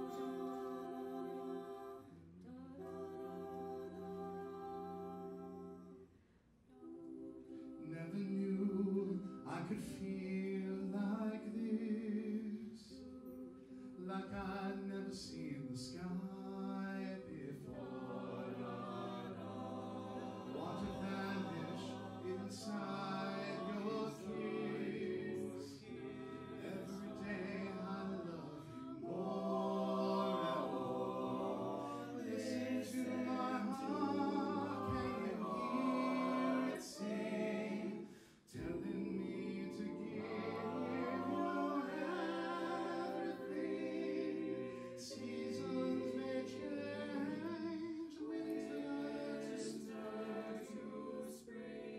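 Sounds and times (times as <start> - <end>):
group singing a cappella: 0.0 - 51.9.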